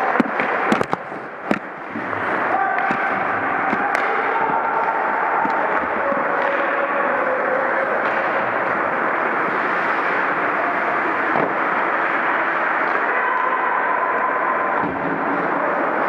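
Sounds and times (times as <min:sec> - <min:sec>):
echoing ice rink noise: 0:00.0 - 0:16.0.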